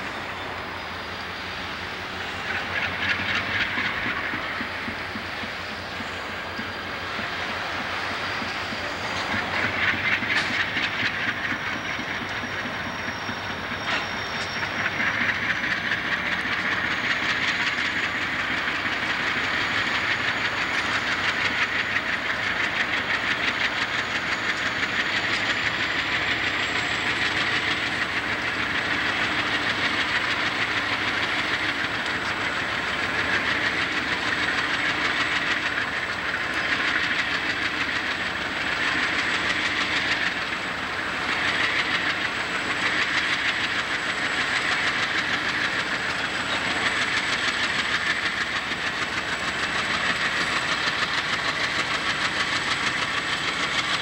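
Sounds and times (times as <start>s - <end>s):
diesel locomotive engines running: 0.0s - 54.0s
wheels clicking over rail joints: 2.2s - 54.0s.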